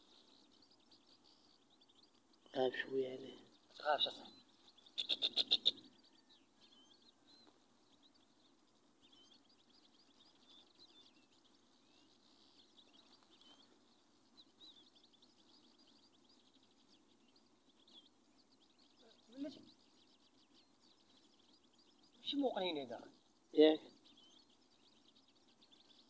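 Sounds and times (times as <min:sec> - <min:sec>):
birds twittering: 0:00.0 - 0:26.0
low steady background: 0:00.0 - 0:26.0.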